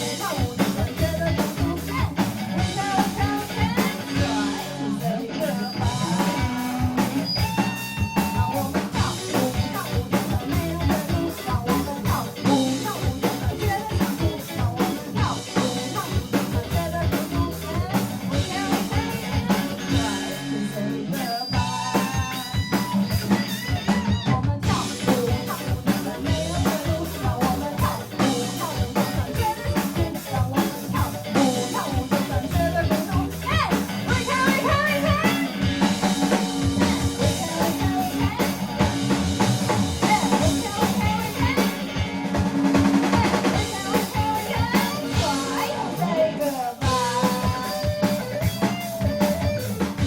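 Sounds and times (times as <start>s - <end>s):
busy drum kit: 0.0s - 50.0s
rock band playing live: 0.0s - 50.0s.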